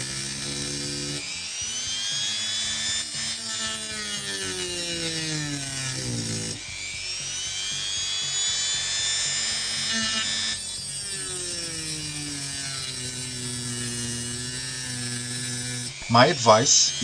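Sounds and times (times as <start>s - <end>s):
rotary tool whining: 0.0s - 17.0s.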